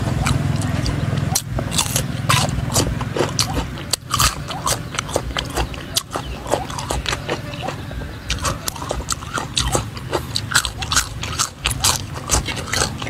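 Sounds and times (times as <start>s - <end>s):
crunching raw vegetables: 0.0s - 13.0s.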